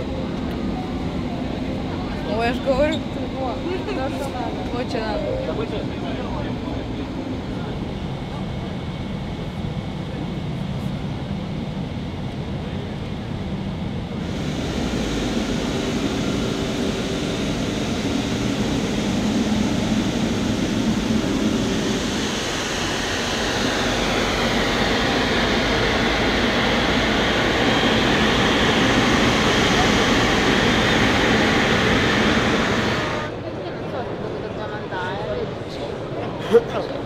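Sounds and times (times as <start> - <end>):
jet engine noise: 0.0 - 36.2
airliner cabin drone: 0.0 - 37.0
high turbine whine: 0.0 - 37.0.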